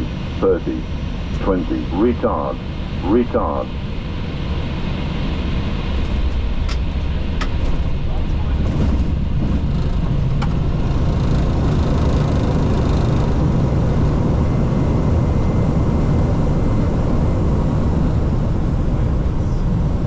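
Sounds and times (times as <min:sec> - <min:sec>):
jet engines in reverse thrust: 0:00.0 - 0:20.0.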